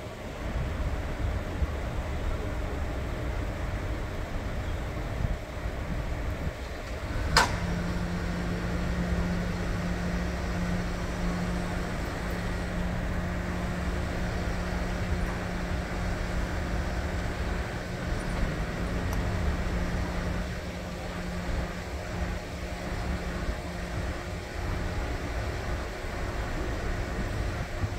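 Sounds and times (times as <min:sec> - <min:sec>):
steady low hum: 0:00.0 - 0:27.9
street traffic engines: 0:00.0 - 0:27.9.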